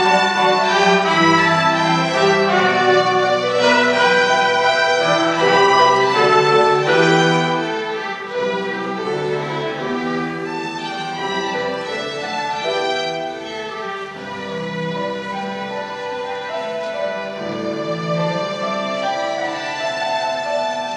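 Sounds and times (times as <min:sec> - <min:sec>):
string ensemble holding notes: 0:00.0 - 0:20.9.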